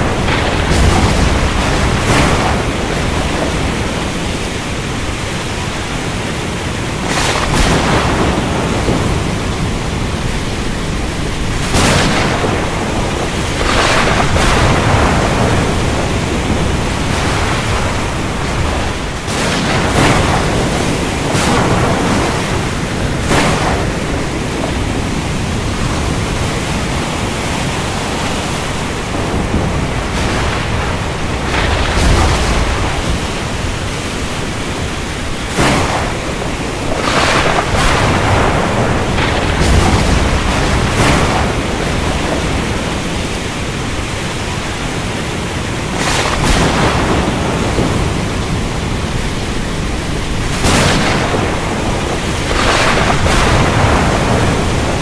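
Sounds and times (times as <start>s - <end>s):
sharp thunder cracks: 0.0s - 44.6s, 45.7s - 55.0s
rain: 0.0s - 55.0s
sea noise: 0.0s - 55.0s
thunder rumbling: 0.0s - 55.0s.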